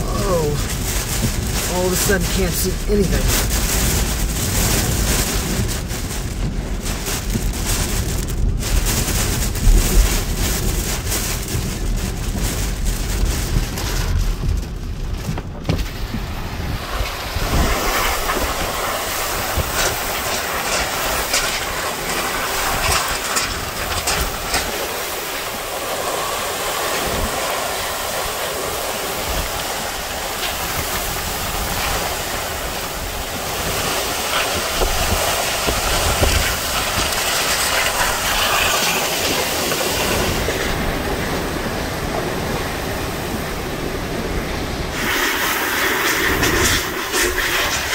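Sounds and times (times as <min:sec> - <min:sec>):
hurricane wind and rain: 0:00.0 - 0:47.9
low rumble of gusts buffeting: 0:00.0 - 0:47.9.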